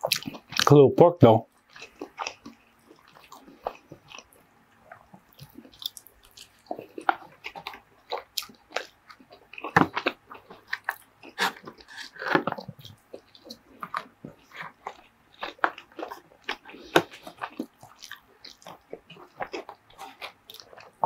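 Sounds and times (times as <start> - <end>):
chewing and wet mouth noises: 0.0 - 0.8, 1.5 - 21.0.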